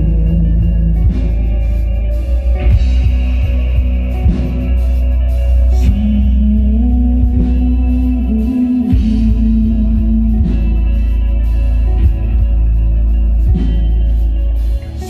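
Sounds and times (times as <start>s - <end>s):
drums: 0.0s - 15.0s
electric bass low notes: 0.0s - 15.0s
electric guitars: 0.0s - 15.0s.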